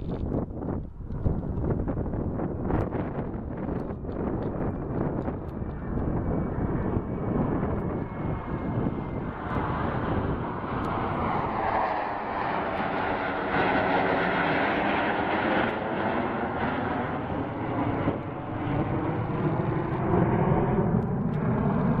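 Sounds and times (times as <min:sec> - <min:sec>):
fighter jets flying overhead: 0:00.0 - 0:22.0.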